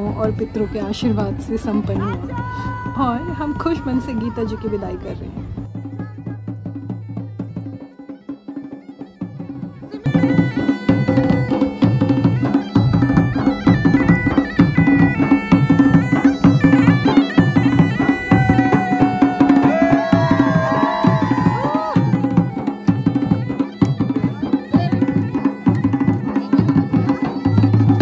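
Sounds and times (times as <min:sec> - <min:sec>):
drum beating a rhythm: 0:00.0 - 0:28.0
bagpipe playing dance tune: 0:05.4 - 0:28.0.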